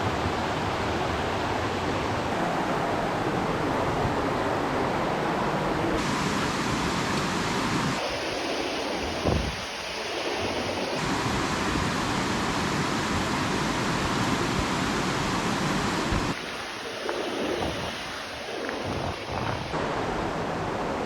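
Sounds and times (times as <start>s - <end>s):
creek water rushing over rapids: 0.0s - 21.0s.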